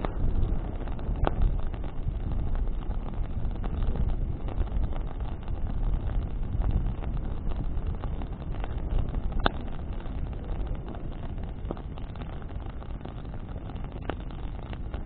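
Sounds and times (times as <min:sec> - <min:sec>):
bonfire flame rumbling: 0:00.0 - 0:15.0
burning branches crackling: 0:00.0 - 0:15.0
wind: 0:00.0 - 0:15.0.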